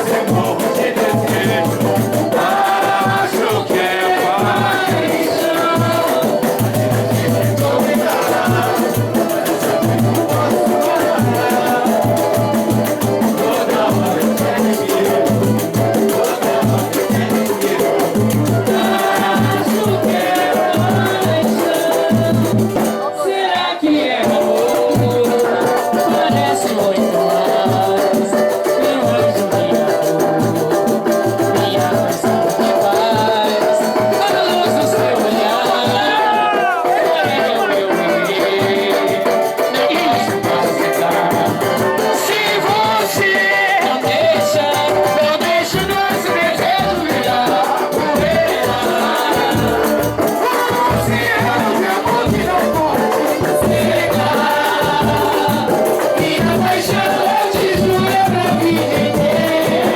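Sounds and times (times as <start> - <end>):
live samba music: 0.0 - 59.9.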